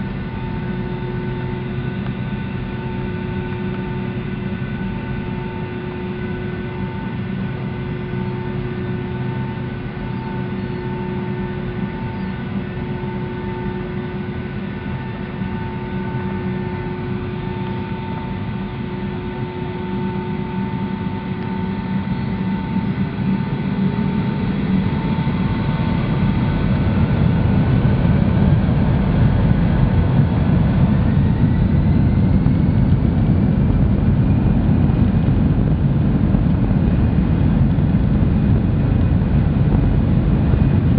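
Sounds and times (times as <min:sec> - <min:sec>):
jet engines heard from cabin: 0:00.0 - 0:40.9
rising engine whine: 0:00.0 - 0:40.9.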